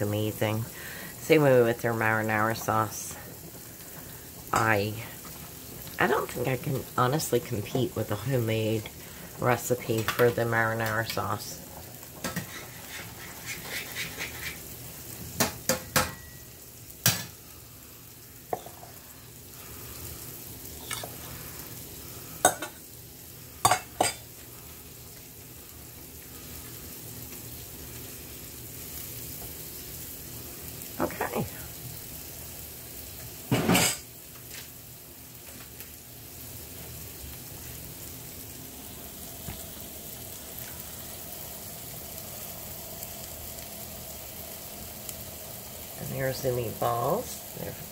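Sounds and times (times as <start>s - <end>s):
meatballs sizzling in a frying pan: 0.0s - 47.9s.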